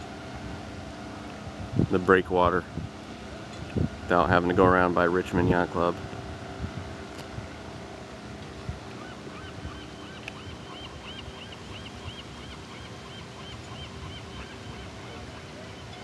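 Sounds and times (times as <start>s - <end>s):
wash of open water: 0.0s - 16.0s.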